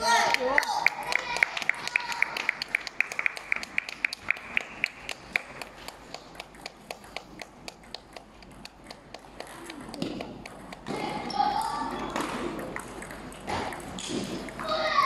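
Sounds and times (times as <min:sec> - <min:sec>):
table tennis balls clicking: 0:00.2 - 0:15.0.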